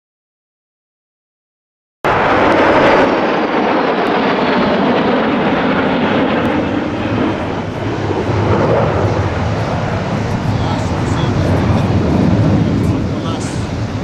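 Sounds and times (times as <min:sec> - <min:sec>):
loud jet roar: 0:02.1 - 0:14.0.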